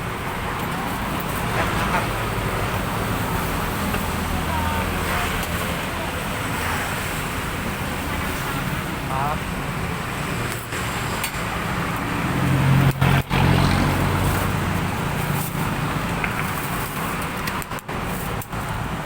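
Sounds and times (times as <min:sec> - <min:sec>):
steady traffic noise: 0:00.0 - 0:19.0
vehicle engine hum: 0:00.0 - 0:19.0.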